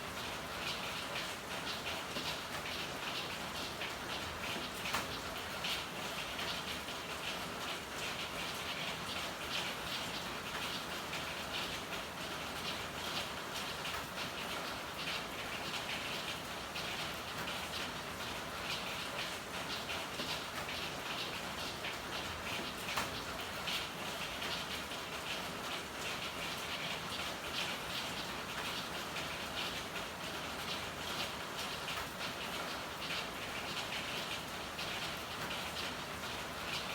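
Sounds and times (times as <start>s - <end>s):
patter of louder raindrops: 0.0s - 36.9s
steady rainfall: 0.0s - 36.9s.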